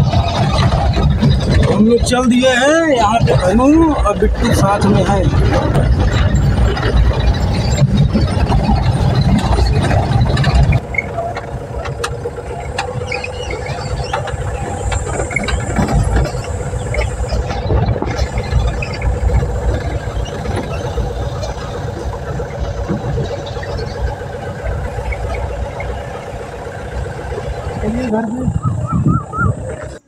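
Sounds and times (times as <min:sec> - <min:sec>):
small rattles: 0:00.0 - 0:28.2
car engine hum: 0:00.0 - 0:30.0
road rumble: 0:00.0 - 0:30.0.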